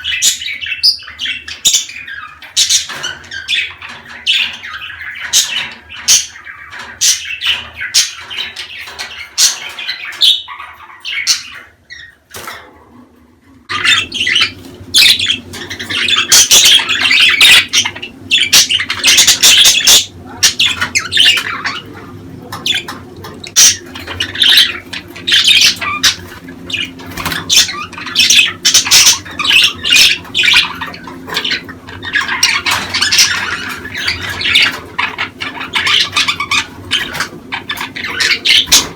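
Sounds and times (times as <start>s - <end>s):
budgerigars chattering: 0.0s - 12.2s, 13.7s - 38.9s.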